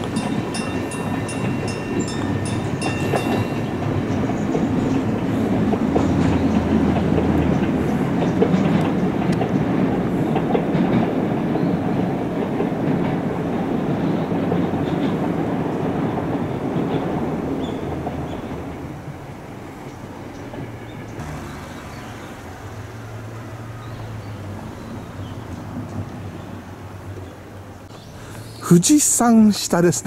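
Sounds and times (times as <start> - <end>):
clickety-clack over rail joints: 0.0 - 30.0
train wheels rumbling on rails: 0.0 - 30.0.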